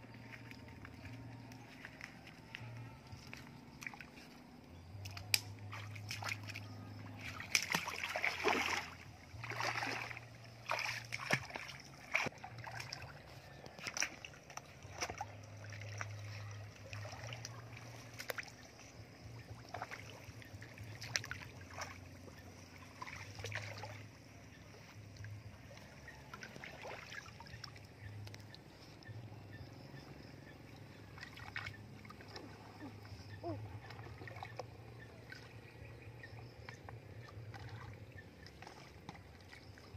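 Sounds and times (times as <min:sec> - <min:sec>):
water splashing from wading: 0:00.0 - 0:39.9.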